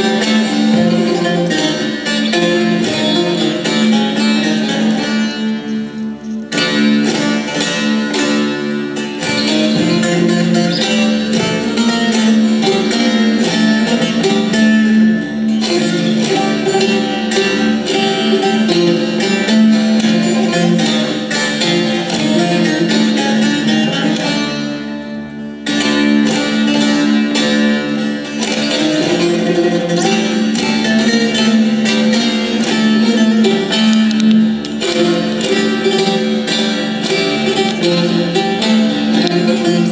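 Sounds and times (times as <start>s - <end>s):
plucked lute folk melody: 0.0s - 39.9s.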